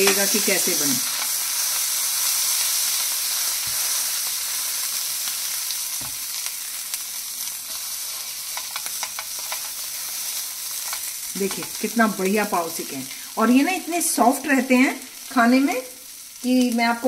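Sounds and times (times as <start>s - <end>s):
butter sizzling in a pan: 0.0s - 17.0s.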